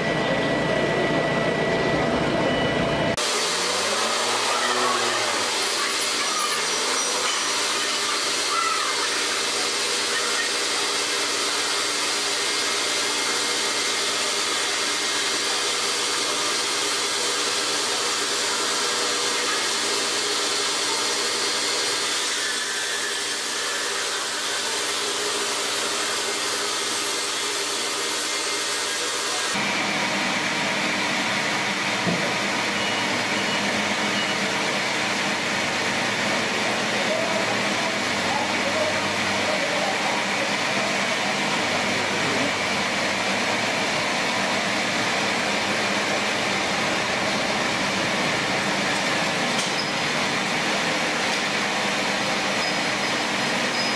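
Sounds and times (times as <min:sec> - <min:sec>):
sawmill machinery whine: 0:00.0 - 0:53.9.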